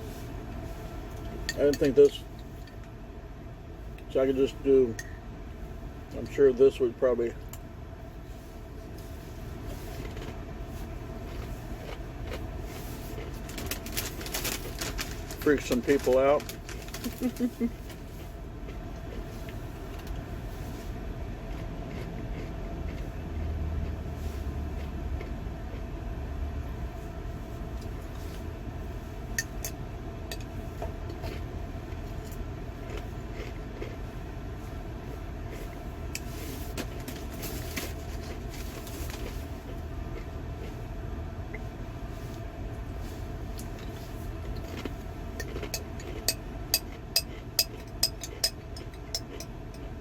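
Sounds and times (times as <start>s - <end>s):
faint steady hum: 0.0s - 50.0s
vehicle rumble inside cab: 0.0s - 50.0s.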